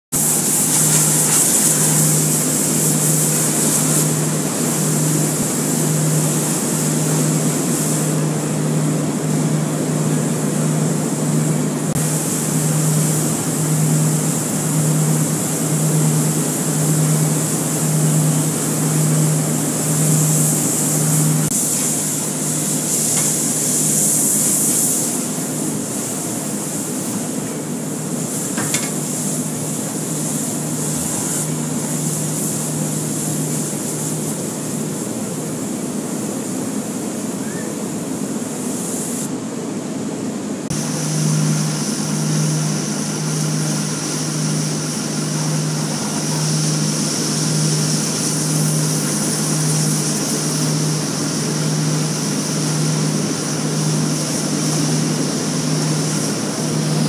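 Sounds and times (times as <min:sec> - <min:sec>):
pressure washer spray hissing: 0:00.2 - 0:39.3, 0:40.7 - 0:57.0.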